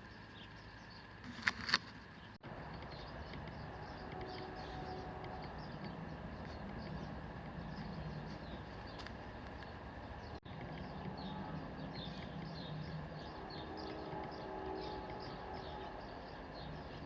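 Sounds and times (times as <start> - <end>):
background ambience: 0.0 - 17.0.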